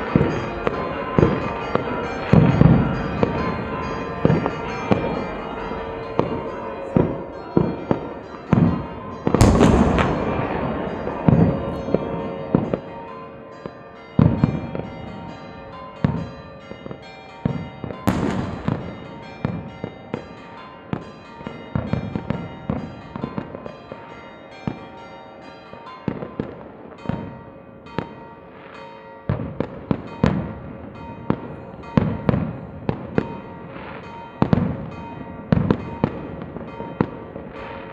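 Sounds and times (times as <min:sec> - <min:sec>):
fireworks bangs and crackles: 0:00.0 - 0:15.4, 0:16.0 - 0:23.7, 0:26.1 - 0:28.2, 0:29.3 - 0:37.9
church bells ringing: 0:00.0 - 0:37.9.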